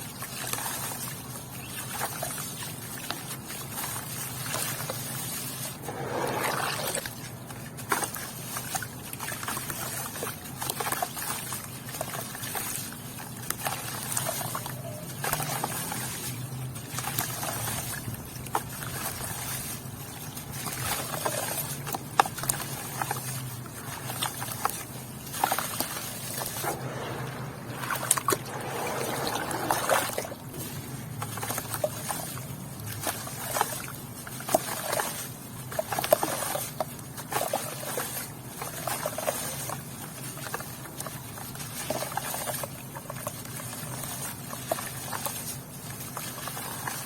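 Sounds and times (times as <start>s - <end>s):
water sloshing: 5.2s - 47.0s.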